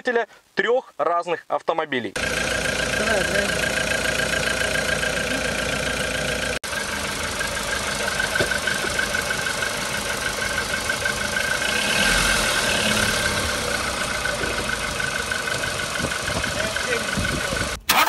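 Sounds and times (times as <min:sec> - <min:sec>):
car engine idling: 0:02.2 - 0:18.0.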